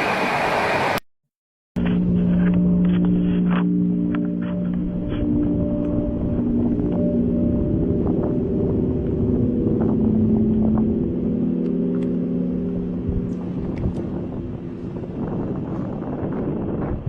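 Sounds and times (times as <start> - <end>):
horn-like droning hum: 1.8 - 17.0
low rumble: 1.8 - 17.0.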